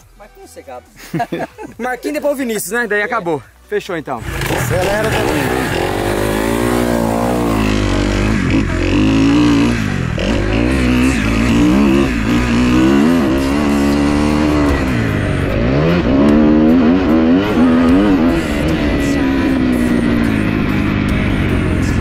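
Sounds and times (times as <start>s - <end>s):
dirt bike engine revving: 4.2s - 22.0s.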